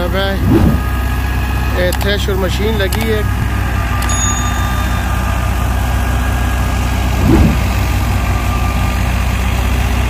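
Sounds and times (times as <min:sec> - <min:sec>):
wheat thresher droning: 0:00.0 - 0:10.0.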